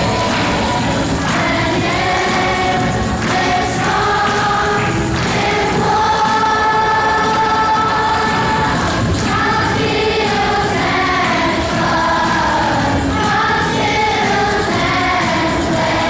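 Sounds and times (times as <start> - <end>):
children's choir singing: 0.0 - 16.0
musical accompaniment: 0.0 - 16.0.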